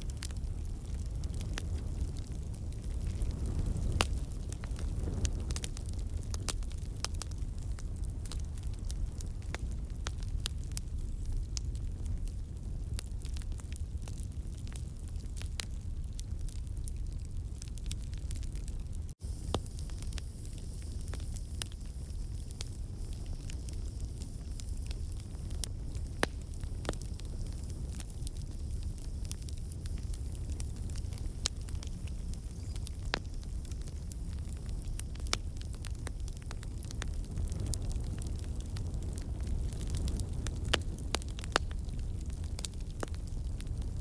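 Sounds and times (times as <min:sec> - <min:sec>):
campfire flame rumble: 0:00.0 - 0:44.0
crackles and pops of logs: 0:00.0 - 0:44.0.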